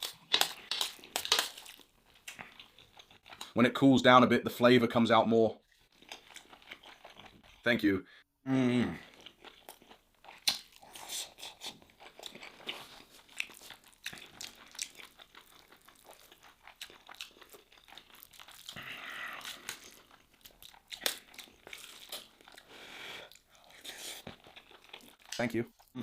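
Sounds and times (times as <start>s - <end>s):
close-miked chewing: 0.0s - 3.6s, 5.7s - 7.6s, 9.0s - 26.0s.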